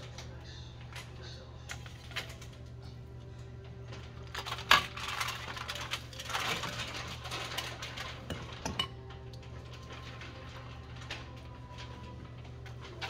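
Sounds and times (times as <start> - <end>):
crinkly foil: 0.0 - 13.0.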